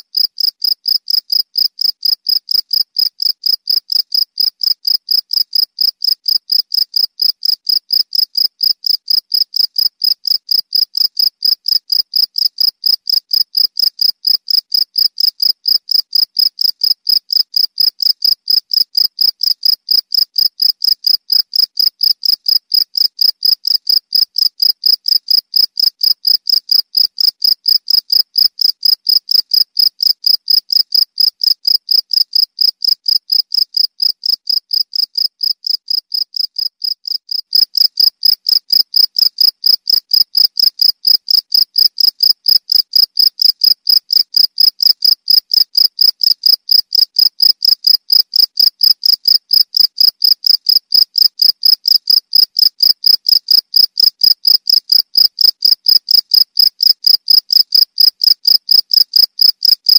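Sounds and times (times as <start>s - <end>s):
cricket chirping: 0.2s - 59.9s.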